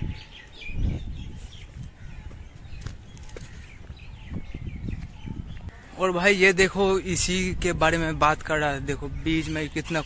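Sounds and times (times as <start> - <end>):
small birds chirping: 0.0 - 10.0
wind rumble on microphone: 0.0 - 10.0.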